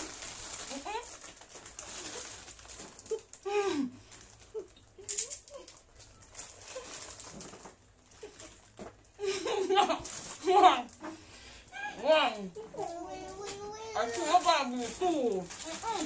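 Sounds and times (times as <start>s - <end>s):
plastic packet crinkling: 0.0s - 11.0s, 12.8s - 16.0s.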